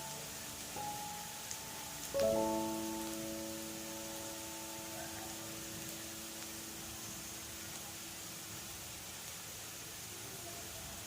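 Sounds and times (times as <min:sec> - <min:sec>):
steady even hiss: 0:00.0 - 0:11.0.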